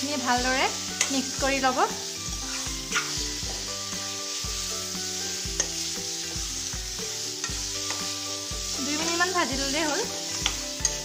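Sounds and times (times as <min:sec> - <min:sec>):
food sizzling in oil: 0:00.0 - 0:11.0
metal spoon scraping a pan: 0:00.7 - 0:11.0.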